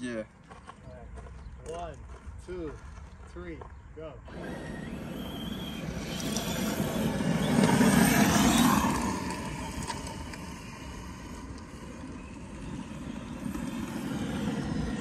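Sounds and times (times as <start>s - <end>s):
electric rc trucks driving on gravel: 0.4s - 15.0s.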